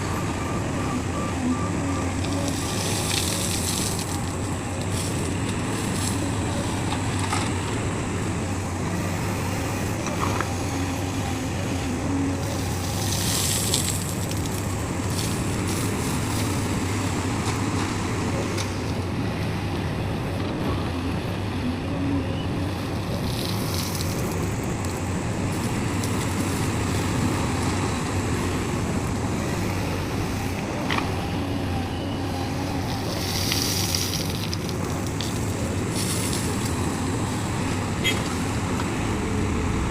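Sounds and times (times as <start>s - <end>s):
diesel machinery engine hum: 0.0s - 39.9s.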